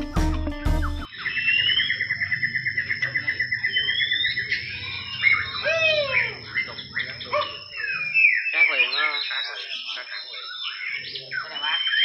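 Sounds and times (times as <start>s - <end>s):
bird trilling and whistling: 0.0s - 12.0s.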